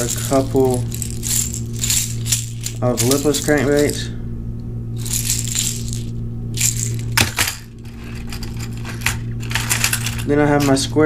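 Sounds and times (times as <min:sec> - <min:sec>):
plastic lures clattering: 0:00.0 - 0:04.0, 0:05.0 - 0:10.8
hooks and rattles clicking: 0:00.0 - 0:04.1, 0:05.0 - 0:10.9
low hum: 0:00.0 - 0:11.0.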